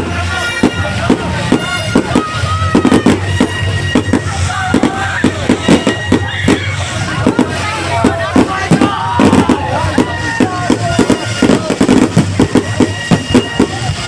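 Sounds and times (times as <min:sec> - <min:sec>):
fireworks bangs and crackles: 0:00.0 - 0:14.0
whistling fireworks: 0:00.0 - 0:14.0.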